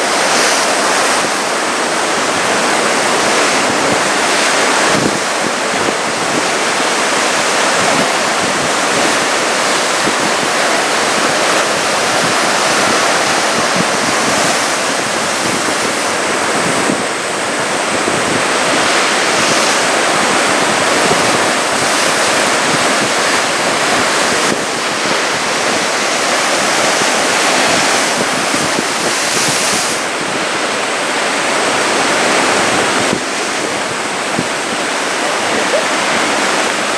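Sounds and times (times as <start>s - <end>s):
surf breaking on shore: 0.0s - 36.9s.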